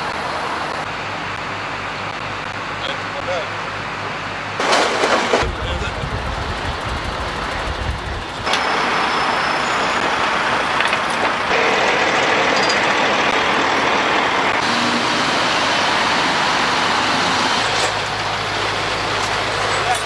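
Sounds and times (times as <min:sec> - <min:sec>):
heavy trucks running: 0:00.0 - 0:20.0.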